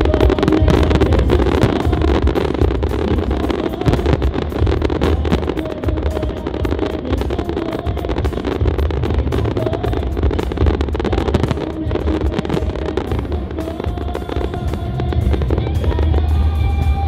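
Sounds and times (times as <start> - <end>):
fireworks rumbling and crackling: 0.0 - 17.0
music over loudspeakers: 0.0 - 17.0.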